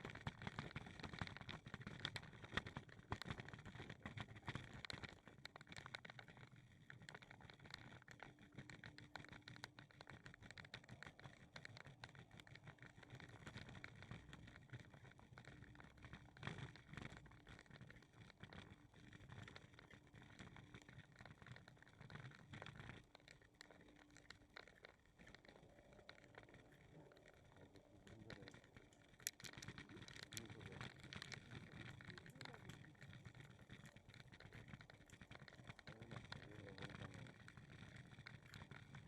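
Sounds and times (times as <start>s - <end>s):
soft ticks and taps: 0.0s - 39.0s.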